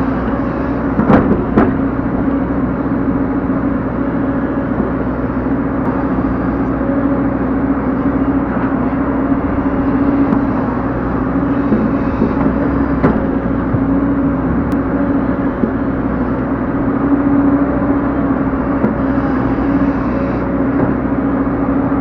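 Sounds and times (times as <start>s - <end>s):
excavator engine running: 0.0s - 22.0s.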